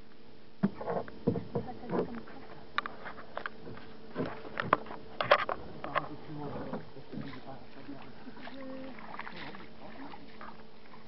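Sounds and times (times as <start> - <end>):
knocks and wet rustling: 0.6 - 11.0.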